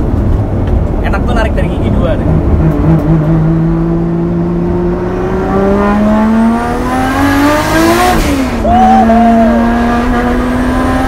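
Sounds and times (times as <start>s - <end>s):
turbocharged car engine revving: 1.5s - 11.0s.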